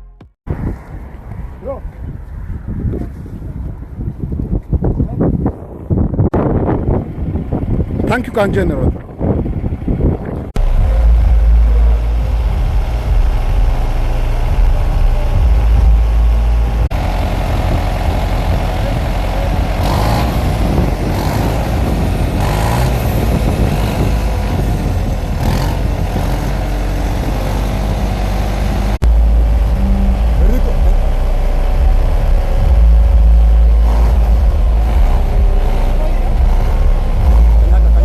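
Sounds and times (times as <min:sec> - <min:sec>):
tractor engine rumbling: 0:00.0 - 0:38.0.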